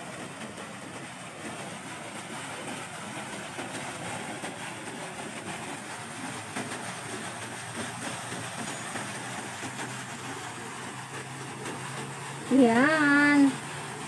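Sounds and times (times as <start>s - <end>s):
pond aerator splashing and bubbling: 0.0s - 14.0s.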